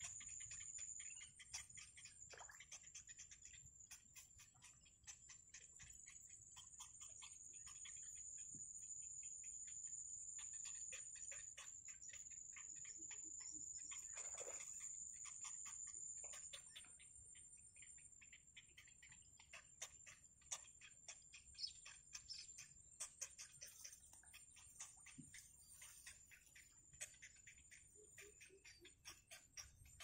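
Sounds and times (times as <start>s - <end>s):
nestlings ticking calls: 0.0s - 30.0s.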